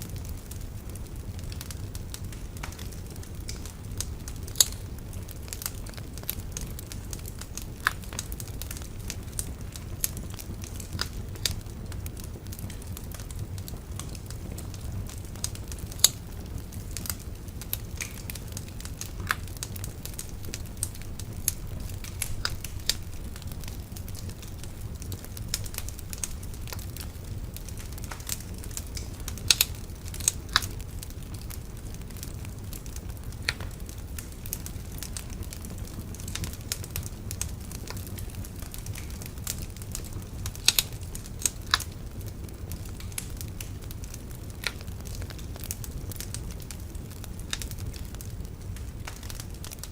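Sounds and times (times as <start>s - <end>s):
bonfire flames rumbling: 0.0s - 49.9s
fire crackles and pops: 0.0s - 49.9s.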